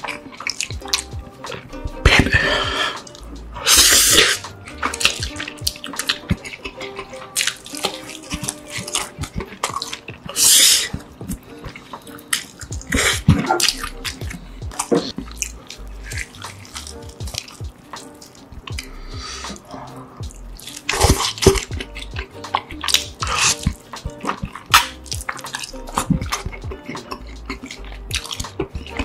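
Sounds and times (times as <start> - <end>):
wet chewing and lip-smacking: 0.0 - 29.0
meat being torn apart: 3.2 - 14.4, 15.1 - 19.6, 20.2 - 29.0.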